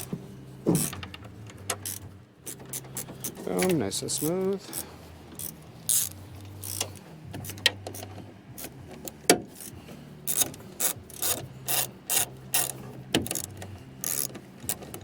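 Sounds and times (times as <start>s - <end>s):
ratchet wrench clicking: 0.8s - 15.0s.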